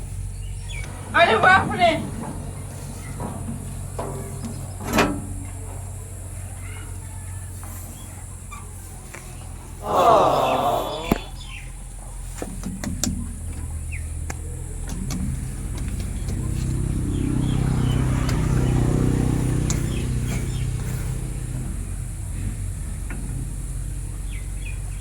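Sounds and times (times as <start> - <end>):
farm machine engine running: 0.0 - 25.0.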